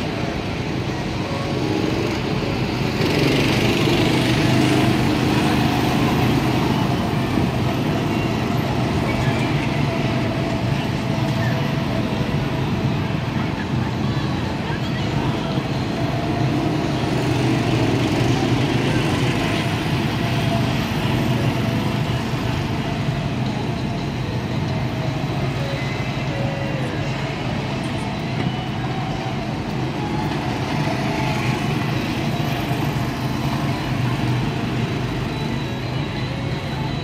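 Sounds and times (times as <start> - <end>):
go-kart engines droning: 0.0 - 37.0.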